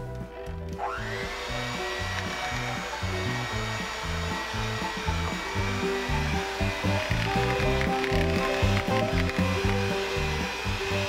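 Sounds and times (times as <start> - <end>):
background music with bass line: 0.0 - 11.0
electric hand mixer whining: 0.0 - 11.0.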